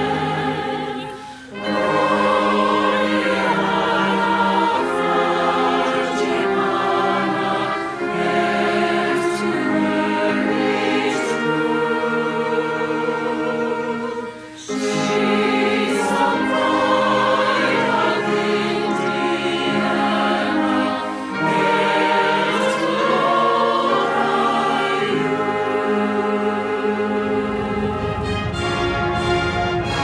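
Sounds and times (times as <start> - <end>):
choir singing sustained chords: 0.0 - 30.0
instrumental accompaniment: 0.0 - 30.0.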